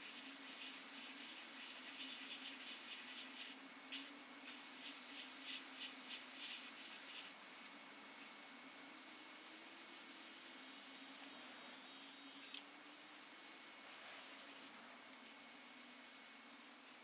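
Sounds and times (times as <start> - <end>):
airbrush hissing bursts: 0.0 - 7.3, 9.1 - 14.7, 15.3 - 16.4.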